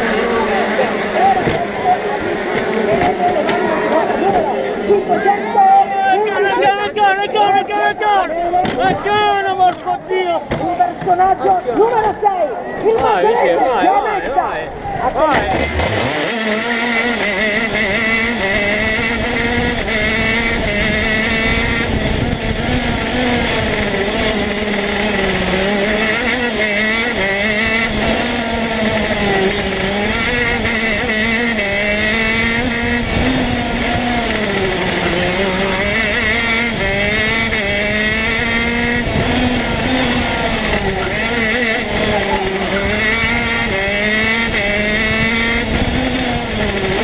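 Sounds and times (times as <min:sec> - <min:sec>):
kart engine at race speed: 0:00.0 - 0:47.0.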